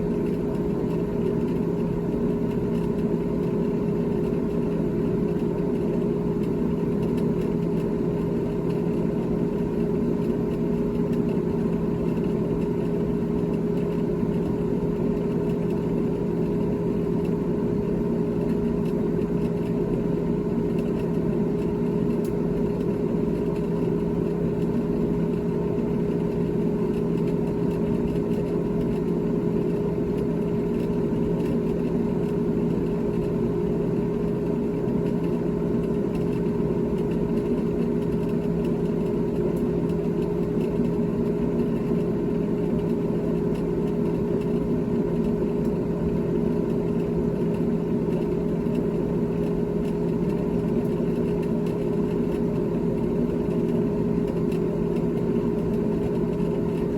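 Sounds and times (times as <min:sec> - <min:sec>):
refrigerator humming: 0:00.0 - 0:56.9.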